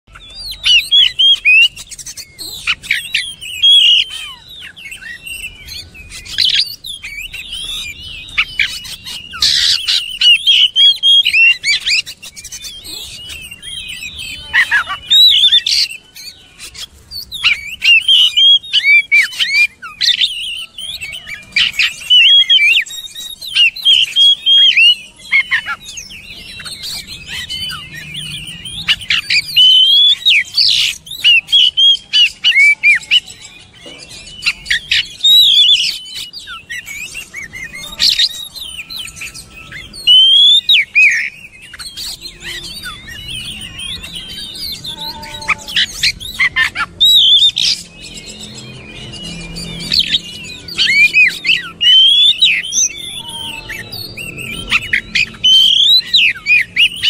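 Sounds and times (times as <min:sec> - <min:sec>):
bird singing whistled notes: 0:00.1 - 0:57.0.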